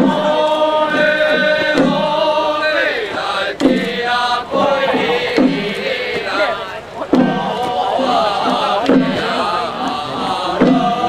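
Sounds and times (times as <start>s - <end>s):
chanting in long held notes: 0.0s - 11.0s.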